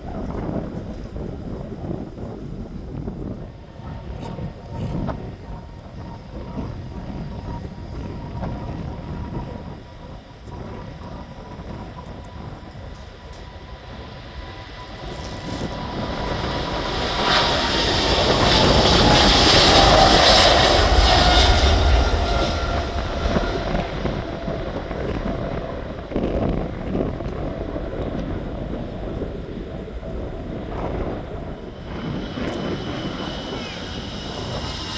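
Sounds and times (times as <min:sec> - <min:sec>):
jet airliner engines passing: 0:00.0 - 0:34.9.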